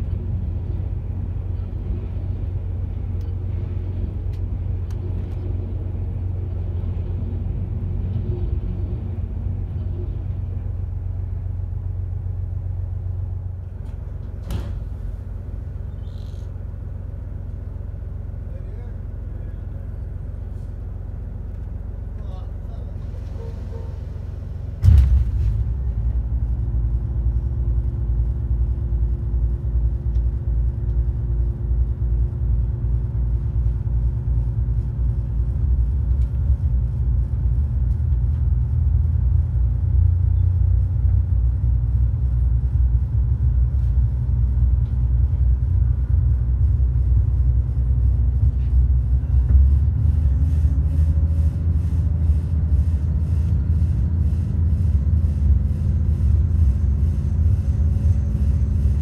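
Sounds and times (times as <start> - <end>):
diesel railcar rumbling: 0.0 - 59.0
faint steady hum: 0.0 - 59.0.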